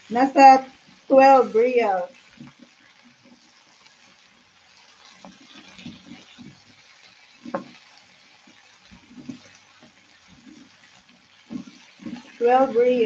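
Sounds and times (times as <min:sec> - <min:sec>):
faint sizzle: 0:00.0 - 0:13.0
spatula scraping in a pan: 0:00.1 - 0:13.0.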